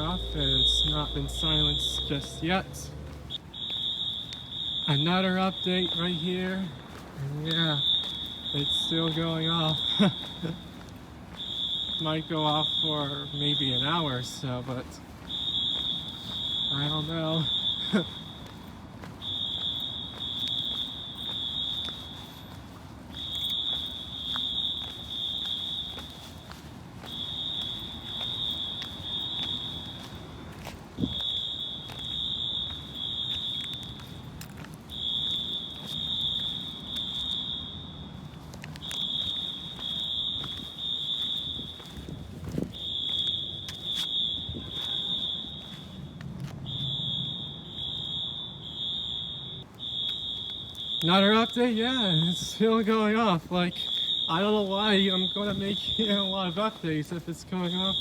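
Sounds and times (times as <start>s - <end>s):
fire alarm horn blasts: 0.0s - 58.0s.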